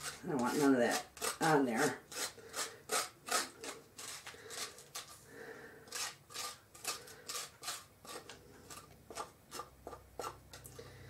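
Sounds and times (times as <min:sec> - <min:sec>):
squash being scraped out: 0:00.0 - 0:10.6.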